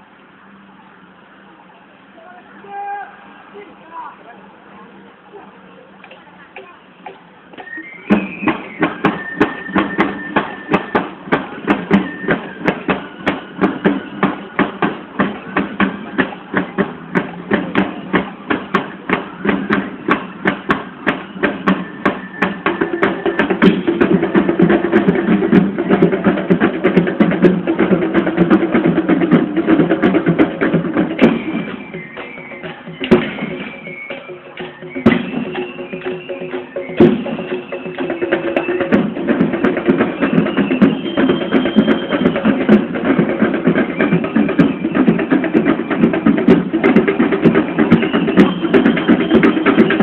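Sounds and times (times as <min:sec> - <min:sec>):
drums march beat: 0:06.6 - 0:50.0
marching band playing: 0:07.6 - 0:50.0.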